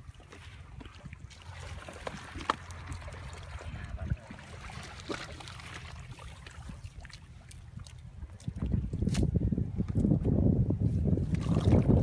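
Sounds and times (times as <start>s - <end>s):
sharp water splashes: 0.0s - 9.3s, 11.3s - 12.0s
muddy water sloshing: 0.0s - 10.2s, 11.0s - 12.0s.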